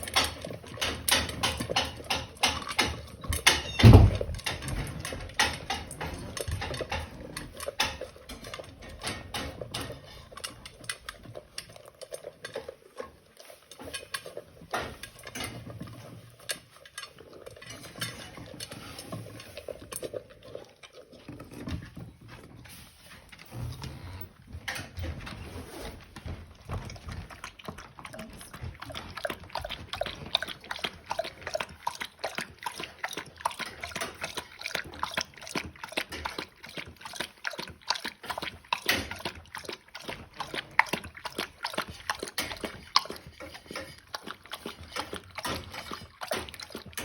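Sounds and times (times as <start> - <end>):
dog eating from a bowl: 0.0 - 47.0.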